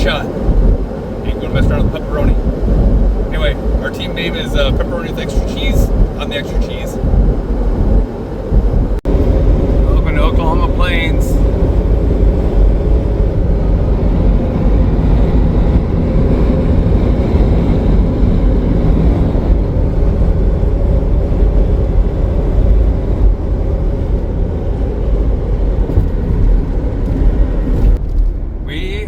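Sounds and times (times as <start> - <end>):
car road noise drone: 0.0 - 29.0.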